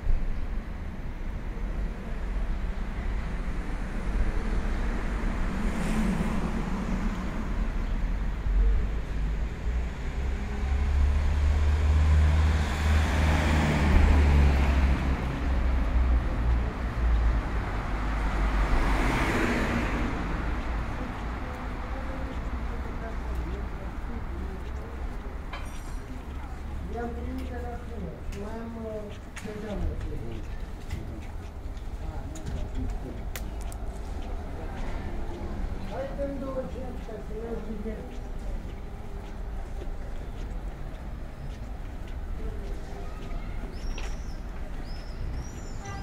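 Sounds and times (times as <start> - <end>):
low traffic rumble: 0.0 - 46.0
cars driving past: 0.8 - 46.0.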